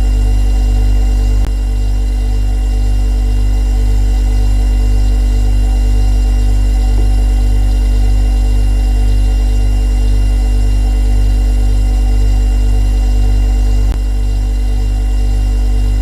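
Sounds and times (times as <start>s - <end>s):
refrigerator compressor humming: 0.0s - 16.0s.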